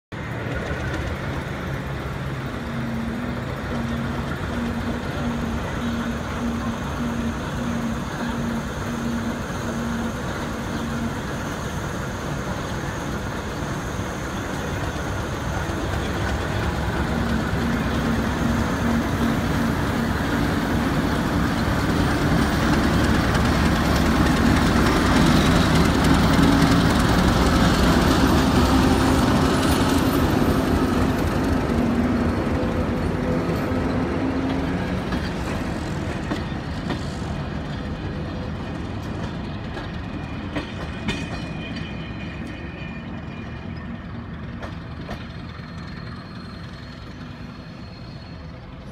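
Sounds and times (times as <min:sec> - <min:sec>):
diesel locomotive engine: 0:00.1 - 0:48.9
train coaches rolling past: 0:00.1 - 0:48.9.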